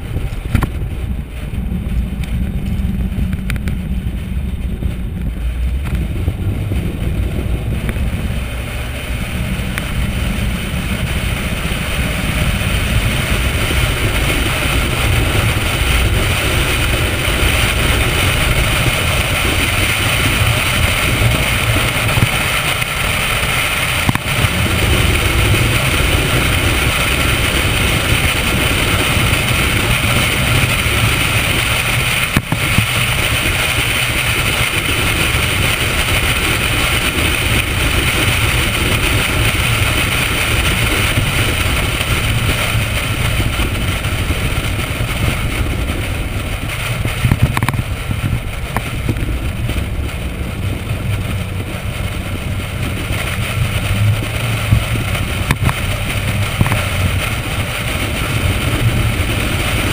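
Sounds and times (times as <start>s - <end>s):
car engine running: 0.0s - 59.9s
wind and road noise: 0.0s - 59.9s.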